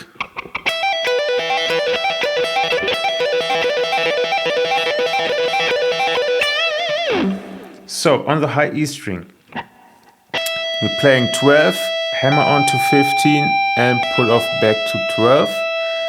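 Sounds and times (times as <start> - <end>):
electric guitar lick: 0.0 - 8.0, 9.5 - 16.0.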